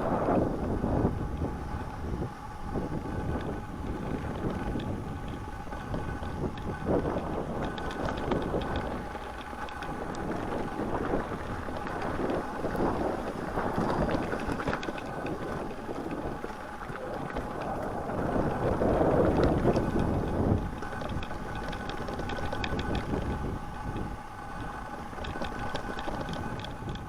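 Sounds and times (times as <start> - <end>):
bike clicks and rattles: 0.0 - 27.0
bike tyres over rough ground: 0.0 - 27.0
wind buffeting microphone: 0.0 - 27.0.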